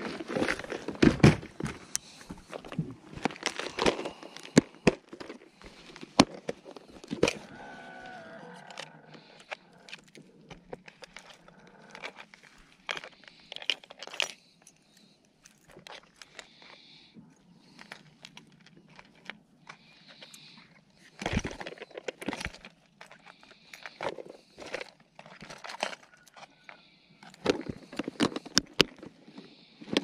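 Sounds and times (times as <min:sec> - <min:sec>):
fishing gear clicks and knocks: 0:00.0 - 0:30.0.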